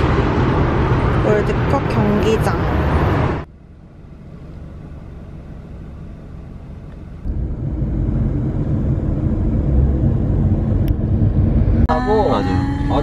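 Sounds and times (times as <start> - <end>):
taxi engine and road rumble: 0.0 - 13.0.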